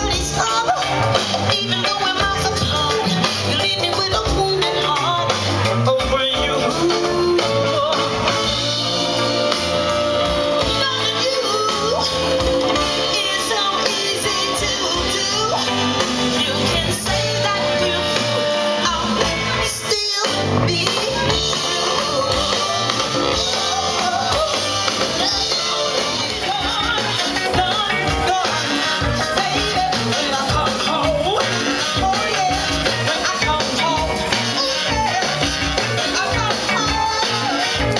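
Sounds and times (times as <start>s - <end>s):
live soul band playing: 0.0s - 37.9s
person singing: 0.0s - 37.9s.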